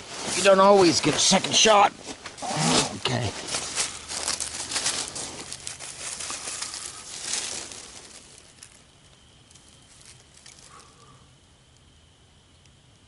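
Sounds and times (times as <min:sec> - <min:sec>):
dry grass rustling: 0:00.0 - 0:11.8.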